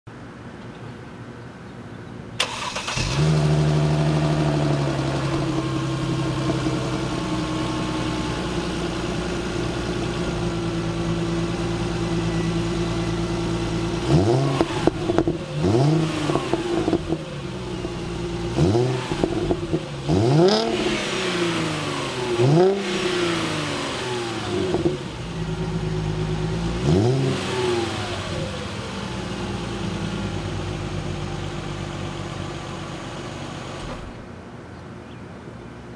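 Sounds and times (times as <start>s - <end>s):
car engine revving: 2.4s - 32.1s
car engine idling: 2.4s - 34.5s.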